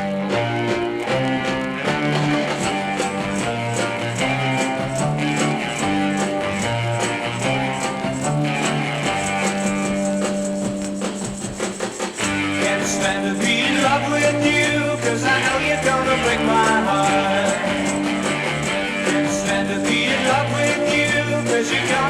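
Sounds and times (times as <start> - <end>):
bass line: 0.0 - 11.0, 12.2 - 22.0
guitar: 0.0 - 22.0
high percussion ticking: 0.0 - 22.0.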